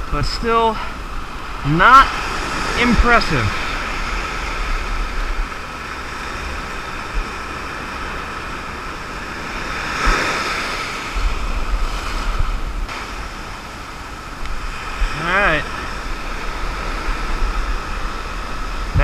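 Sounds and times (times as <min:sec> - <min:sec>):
ocean surf on a sandy beach: 0:00.0 - 0:19.0
wind rumbling on the microphone: 0:00.0 - 0:19.0.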